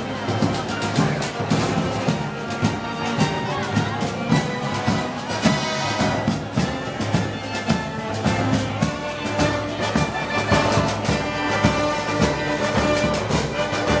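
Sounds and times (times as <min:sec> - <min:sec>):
brass band playing: 0:00.0 - 0:14.0
drums keeping a steady beat: 0:00.0 - 0:14.0.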